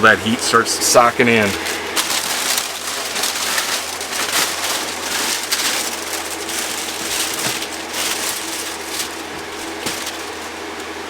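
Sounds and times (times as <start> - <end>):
electric fan humming: 0.0 - 11.0
window shades rustling and crinkling: 0.0 - 11.0.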